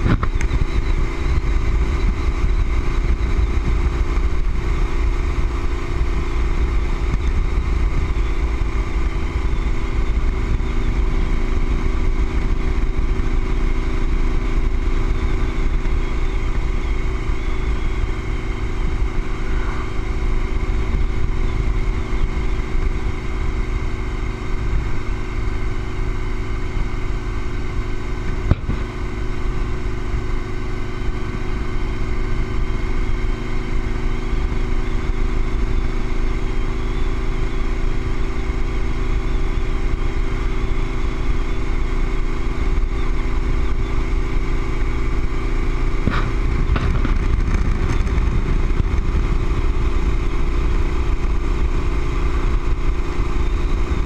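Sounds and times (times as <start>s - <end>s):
wind rumble on microphone: 0.0s - 38.7s, 45.1s - 54.0s
motorcycle engine drone: 0.0s - 54.0s.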